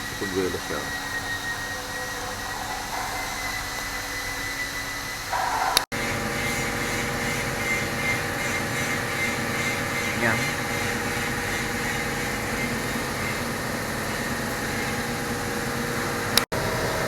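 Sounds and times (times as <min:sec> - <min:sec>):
mechanical running noise with whine: 0:00.0 - 0:17.0.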